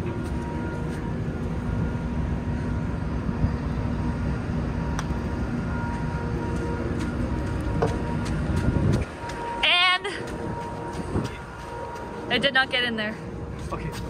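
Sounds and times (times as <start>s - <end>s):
low rumble: 0.0s - 13.9s
machinery hum: 0.0s - 14.0s.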